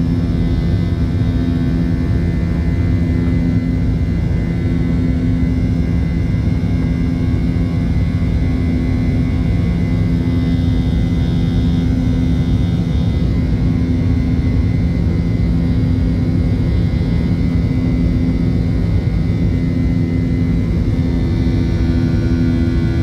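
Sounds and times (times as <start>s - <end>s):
faint high whine: 0.0s - 23.0s
jet engine roar: 0.0s - 23.0s
low steady hum: 0.0s - 23.0s.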